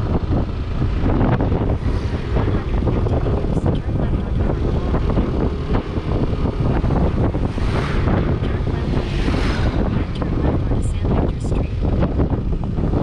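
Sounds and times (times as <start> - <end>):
motor scooter riding: 0.0 - 13.0
wind buffeting microphone: 0.0 - 13.0.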